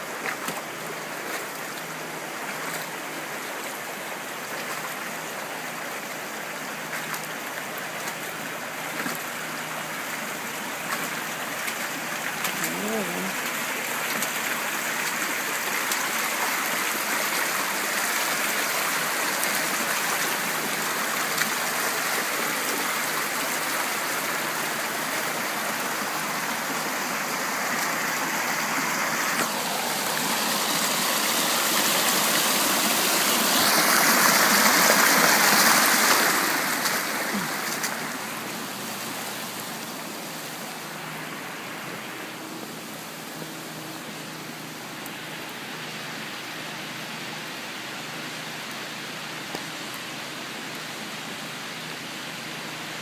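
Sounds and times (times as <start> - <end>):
rushing floodwater: 0.0 - 53.0.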